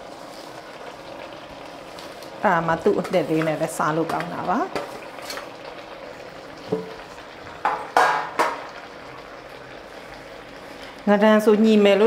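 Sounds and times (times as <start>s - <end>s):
faint sizzle: 0.0s - 12.0s.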